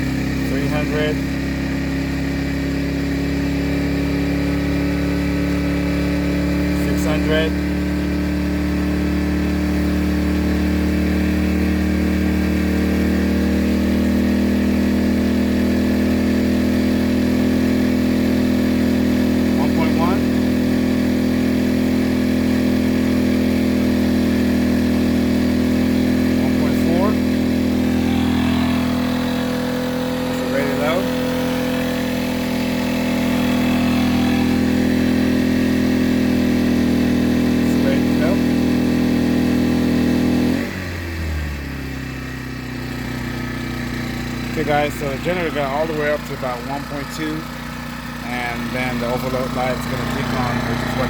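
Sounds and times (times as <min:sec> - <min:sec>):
generator engine running: 0:00.0 - 0:51.0.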